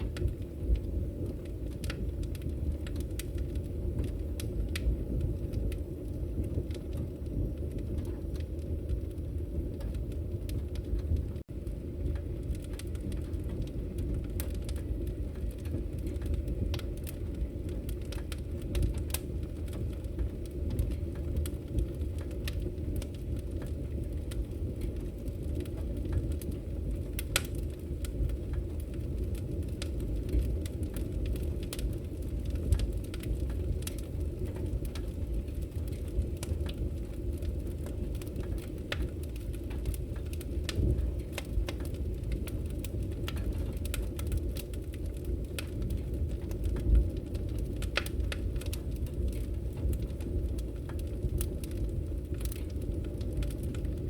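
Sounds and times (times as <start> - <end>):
firewood crackling and popping: 0.0 - 54.0
low rumble of flames: 0.0 - 54.0.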